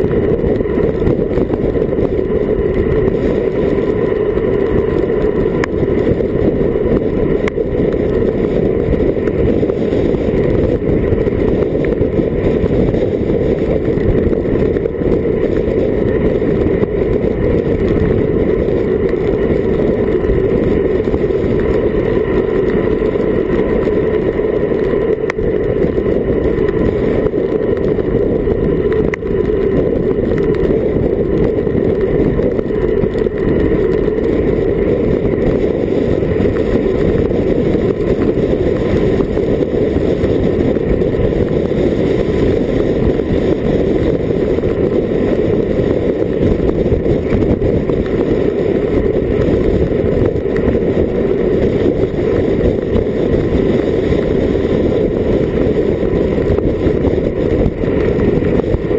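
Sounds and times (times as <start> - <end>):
wind rumble on microphone: 0.0 - 58.9.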